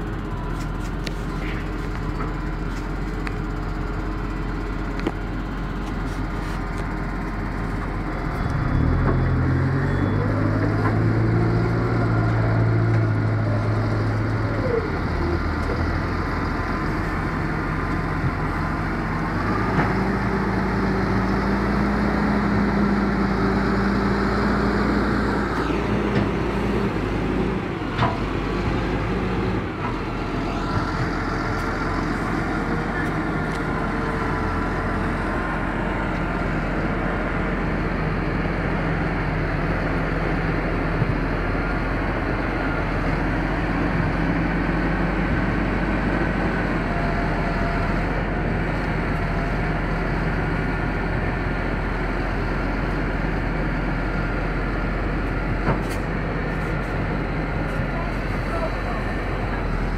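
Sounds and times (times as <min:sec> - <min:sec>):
tractor diesel engine working hard: 0:00.0 - 0:59.9.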